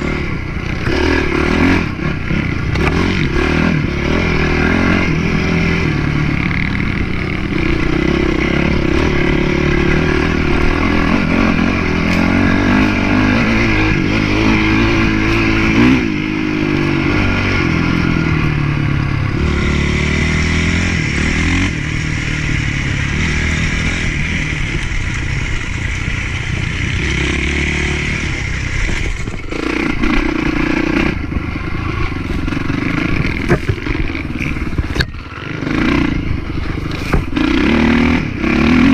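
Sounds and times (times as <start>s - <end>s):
motocross bike engine revving: 0.0s - 38.9s
wind noise: 0.0s - 38.9s.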